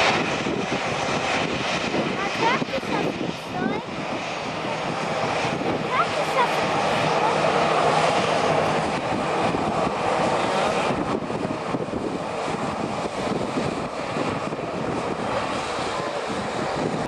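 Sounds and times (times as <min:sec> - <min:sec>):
airplane engine rushing: 0:00.0 - 0:17.0.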